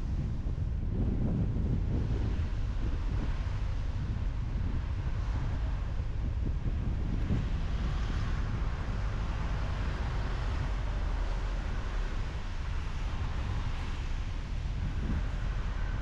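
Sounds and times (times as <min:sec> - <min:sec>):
tyre road rumble: 0:00.0 - 0:16.0
wind noise rushing: 0:00.0 - 0:16.0.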